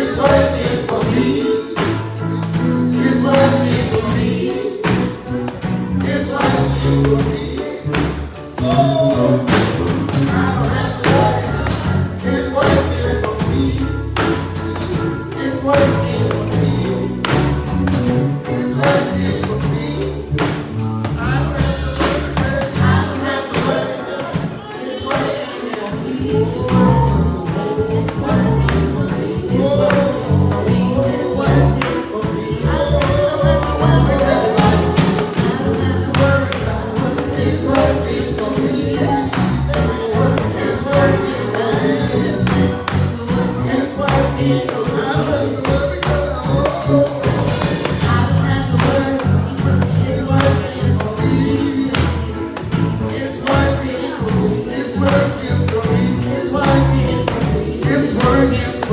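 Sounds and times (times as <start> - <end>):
heavy bass: 0.0 - 23.2, 26.3 - 58.9
gospel music: 0.0 - 58.9
tambourine shaking: 0.0 - 58.9
voices singing: 0.0 - 58.9.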